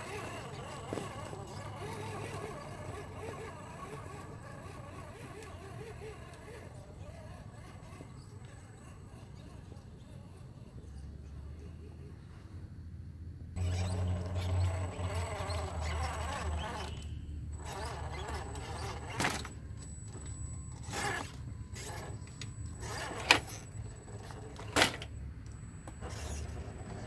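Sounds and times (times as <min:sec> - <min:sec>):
electric motor and gears whining: 0:00.0 - 0:10.9, 0:13.6 - 0:27.0.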